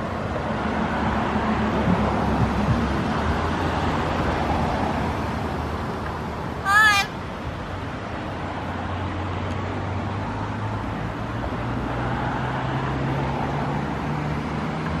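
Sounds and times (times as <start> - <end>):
road traffic: 0.0 - 15.0
vehicle engine hum: 0.0 - 15.0.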